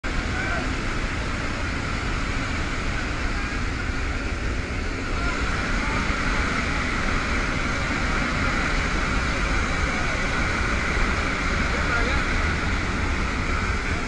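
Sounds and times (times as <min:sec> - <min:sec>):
plane engines roaring: 0:00.0 - 0:14.0
rushing air: 0:00.0 - 0:14.0.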